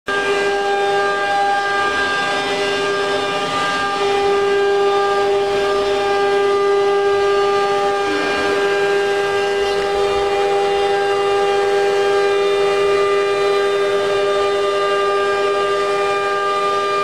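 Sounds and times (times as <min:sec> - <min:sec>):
router spindle high whine: 0:00.1 - 0:17.0.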